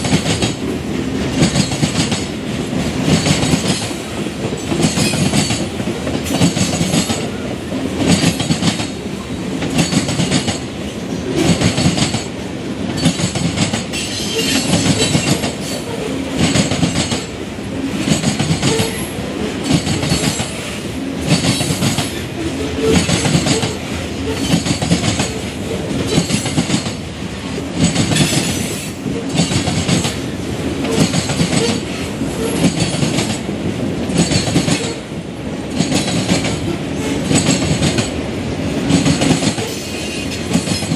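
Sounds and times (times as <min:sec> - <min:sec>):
train wheels clacking over rail joints: 0:00.0 - 0:27.0, 0:27.6 - 0:35.1, 0:35.7 - 0:38.2, 0:38.8 - 0:40.9.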